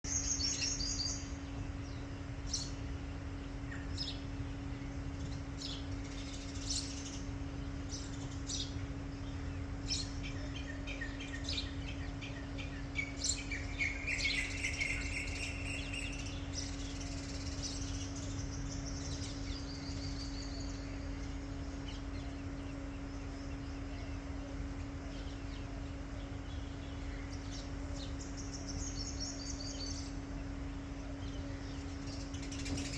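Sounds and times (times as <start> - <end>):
birds chirping and calling: 0.0 - 32.9
steady low hum: 0.0 - 32.9.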